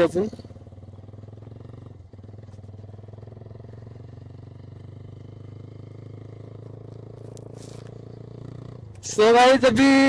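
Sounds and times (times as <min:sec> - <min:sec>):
motorcycle engine running steadily: 0:00.0 - 0:10.0.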